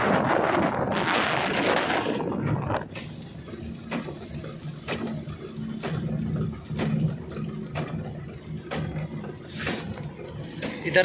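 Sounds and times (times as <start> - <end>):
engine and tyres humming: 0.0 - 11.0
windscreen wipers swishing: 0.0 - 11.0.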